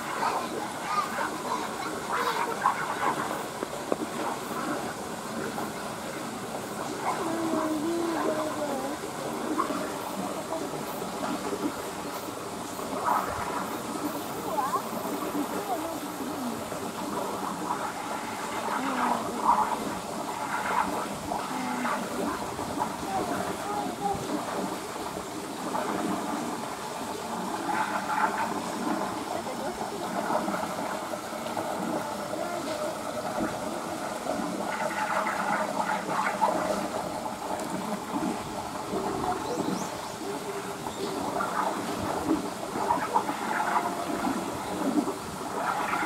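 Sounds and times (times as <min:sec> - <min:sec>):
faint voices: 0:00.0 - 0:46.0
rushing water: 0:00.0 - 0:46.0.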